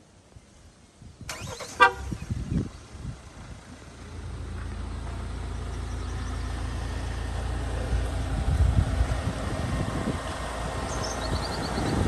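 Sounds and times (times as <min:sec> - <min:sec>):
car engine starting and idling: 0:01.2 - 0:12.0.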